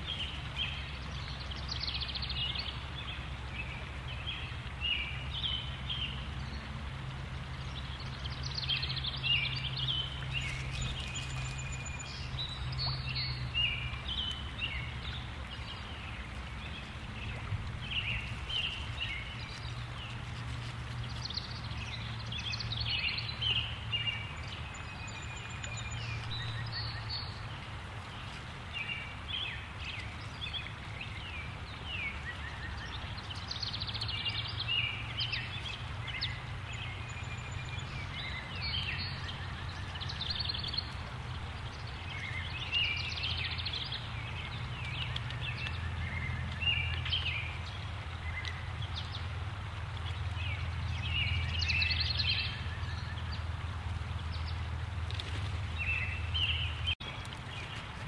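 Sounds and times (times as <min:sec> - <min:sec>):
birds chirping: 0:07.4 - 0:58.0.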